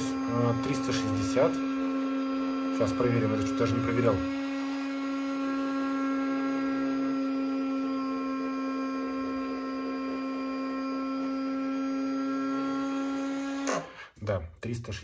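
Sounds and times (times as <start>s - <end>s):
small electric motor humming: 0.0s - 14.0s.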